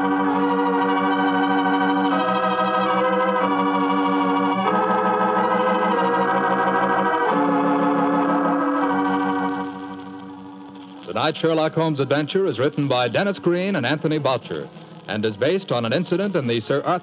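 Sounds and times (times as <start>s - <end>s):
organ chords with vibrato: 0.0s - 17.0s.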